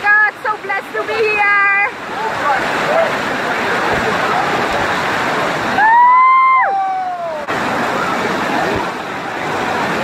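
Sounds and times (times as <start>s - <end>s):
waterfall rushing over rocks: 0.0s - 10.0s.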